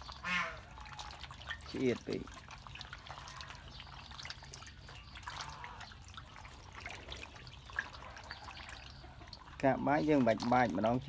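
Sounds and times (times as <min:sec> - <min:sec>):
small splashes and clicks: 0:00.0 - 0:11.0
water trickling and dripping: 0:00.0 - 0:11.0.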